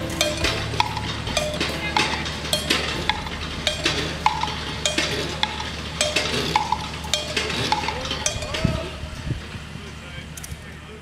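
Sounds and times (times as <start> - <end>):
percussive music with metallic hits: 0.0 - 8.9.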